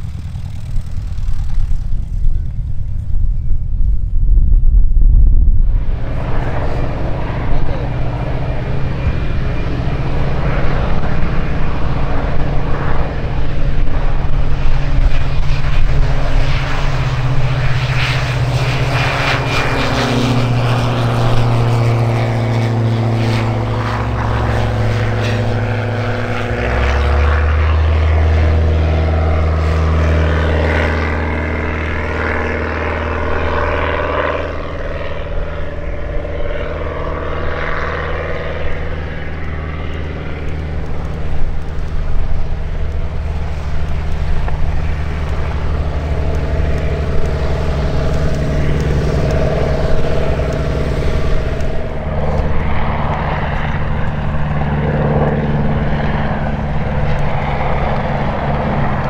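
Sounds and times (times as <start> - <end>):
propeller plane droning: 0.0 - 59.0.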